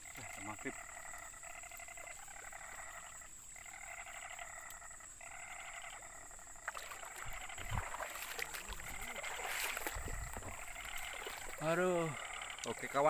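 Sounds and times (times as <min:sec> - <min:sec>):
frogs calling in pulsed trills: 0:00.0 - 0:13.0.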